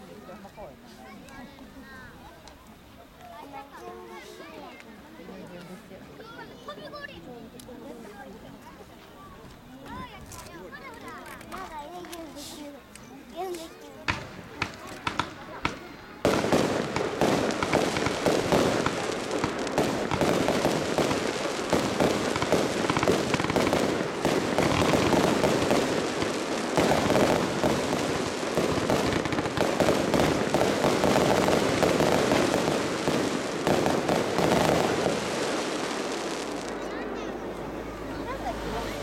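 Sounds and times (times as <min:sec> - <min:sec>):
fireworks bangs and crackles: 0:07.6 - 0:39.0.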